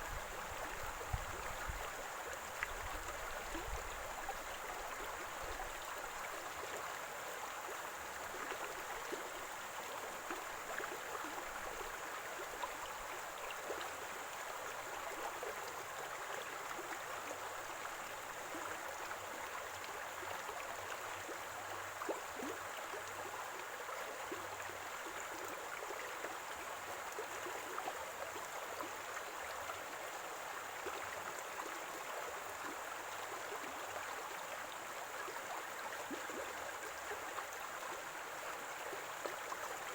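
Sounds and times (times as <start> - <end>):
stream gurgling: 0.0 - 39.9.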